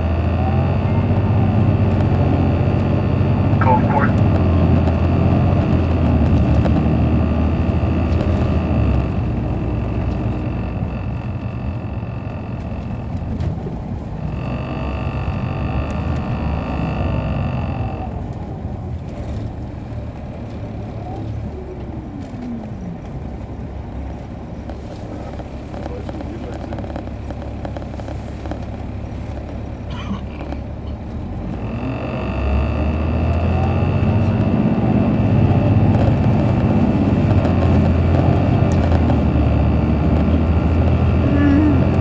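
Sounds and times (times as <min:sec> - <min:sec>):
diesel engine drone: 0:00.0 - 0:42.0
steady high whine: 0:00.0 - 0:42.0.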